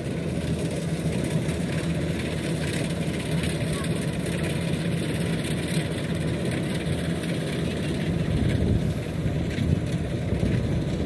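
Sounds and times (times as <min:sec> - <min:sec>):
distant harvester engines droning: 0:00.0 - 0:11.0.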